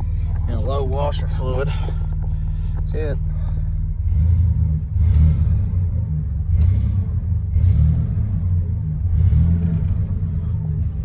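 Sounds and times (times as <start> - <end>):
pickup engine rumbling: 0.0 - 11.0.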